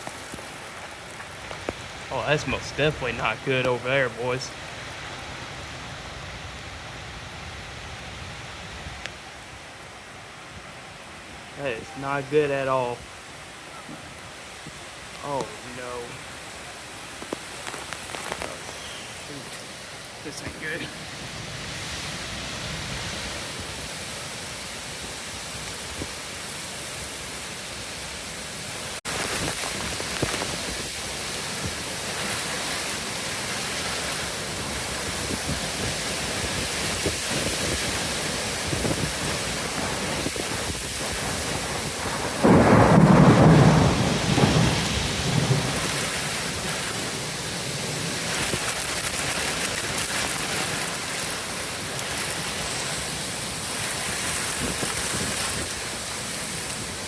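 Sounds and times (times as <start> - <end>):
heavy rain: 0.0 - 57.0
wind: 0.0 - 57.0.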